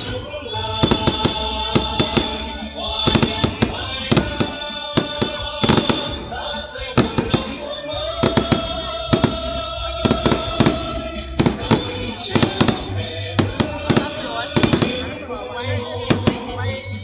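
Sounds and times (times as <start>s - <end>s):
fireworks bangs: 0.6s - 17.0s.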